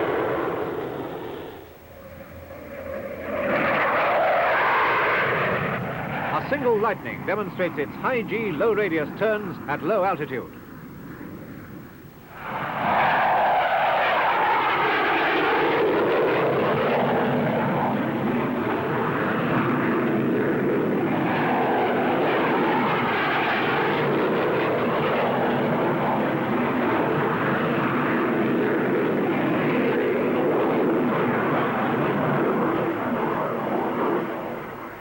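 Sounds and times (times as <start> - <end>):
jet fighter engines roaring: 0.0 - 35.0.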